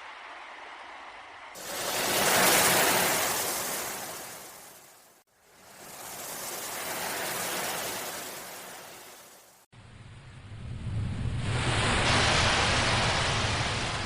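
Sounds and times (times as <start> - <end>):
ocean waves washing in: 0.0 - 14.0.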